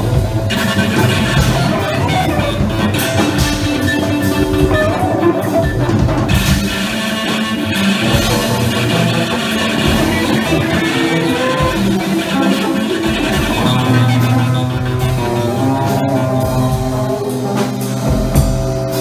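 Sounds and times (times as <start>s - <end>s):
low drum thumps: 0.0s - 17.3s
loud experimental band music: 0.0s - 19.0s.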